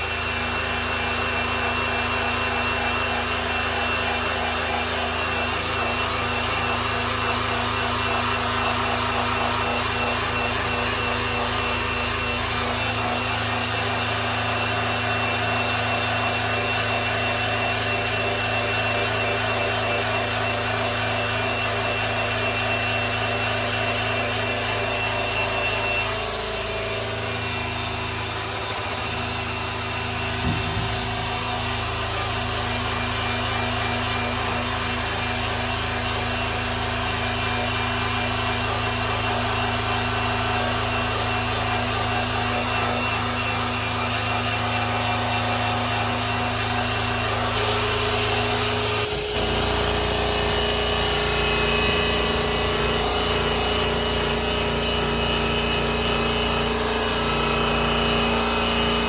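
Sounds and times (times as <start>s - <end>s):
electric polisher motor hum: 0.0s - 59.0s.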